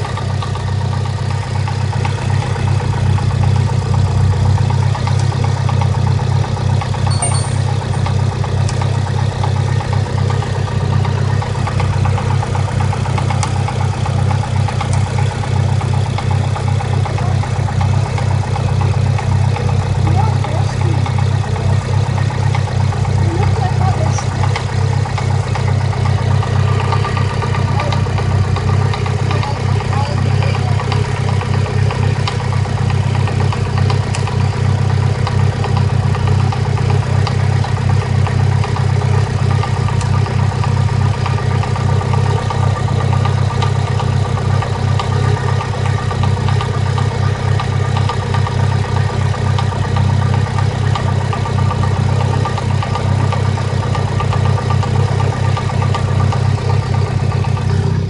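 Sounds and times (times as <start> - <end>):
car engine idling roughly: 0.0 - 58.0.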